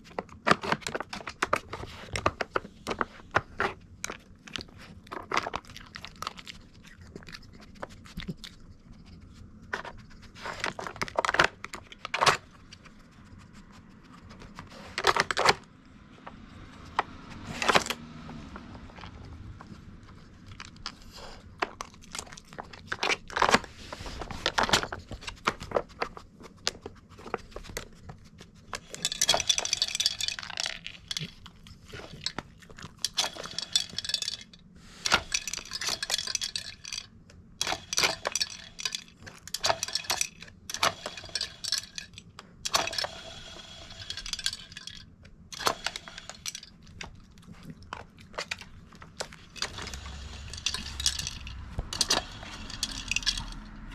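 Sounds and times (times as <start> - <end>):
plastic toy clacking and rattling: 0.0 - 8.6, 9.7 - 12.9, 18.6 - 53.9
dog crunching kibble: 0.0 - 15.7, 16.6 - 53.9.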